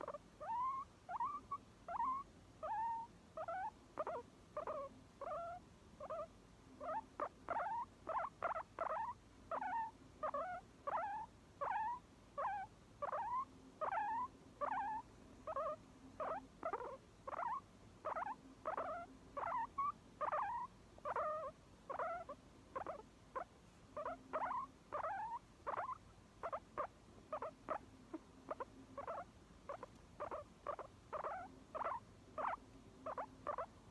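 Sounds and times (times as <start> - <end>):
guinea pig squeaking: 0.0 - 33.8.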